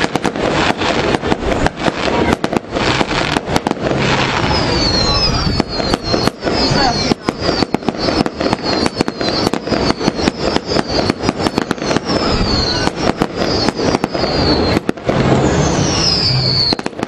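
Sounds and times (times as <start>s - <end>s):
fireworks bangs: 0.0s - 17.0s
fireworks whistles falling in pitch: 0.0s - 17.0s.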